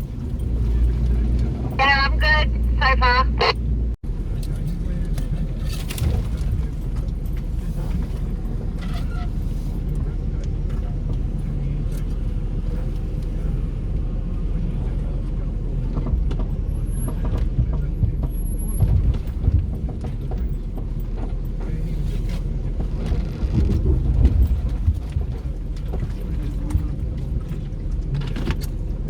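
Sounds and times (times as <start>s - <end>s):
knocks and rattles on rough track: 0.0s - 29.0s
vehicle engine running: 0.0s - 29.0s.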